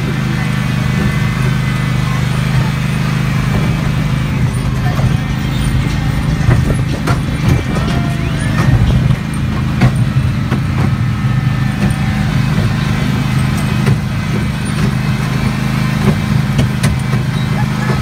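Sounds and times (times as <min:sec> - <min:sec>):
ride train engine running: 0:00.0 - 0:18.0.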